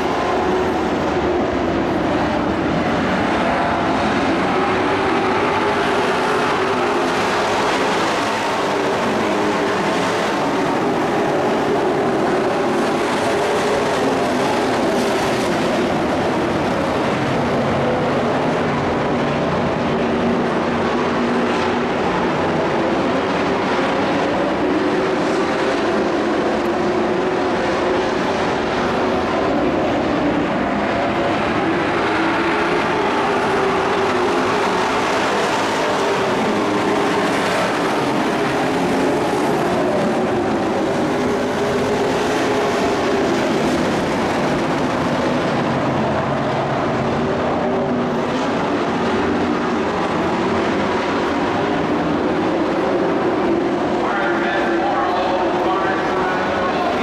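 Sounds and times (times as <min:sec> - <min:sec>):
race truck engines droning: 0:00.0 - 0:57.0.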